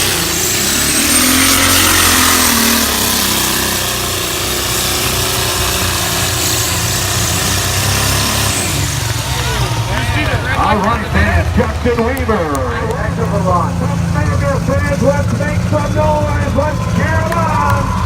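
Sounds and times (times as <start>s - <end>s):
pulling vehicle engine at high revs: 0.0s - 18.0s.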